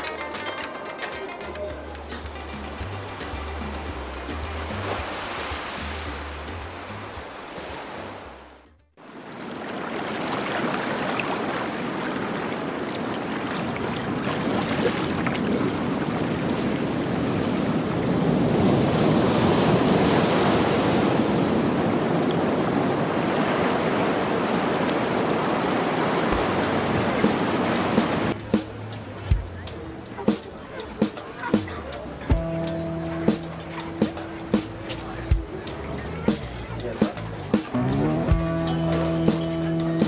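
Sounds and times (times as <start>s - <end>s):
sea waves and surf: 0.0s - 40.0s.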